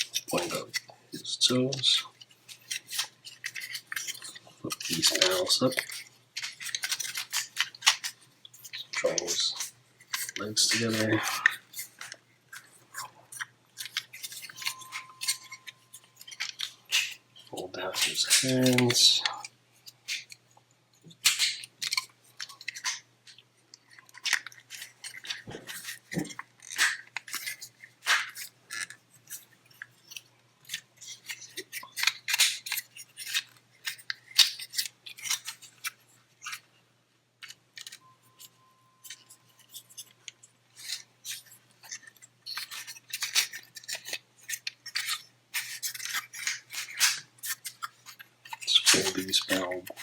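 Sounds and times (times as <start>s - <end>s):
plastic parts clicking and snapping: 0.0s - 20.4s, 21.0s - 36.7s, 37.4s - 50.0s.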